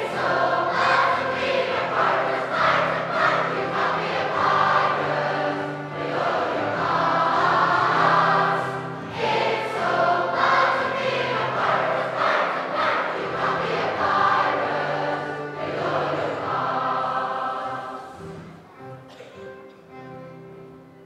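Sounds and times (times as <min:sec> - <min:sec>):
choir singing in harmony: 0:00.0 - 0:19.3.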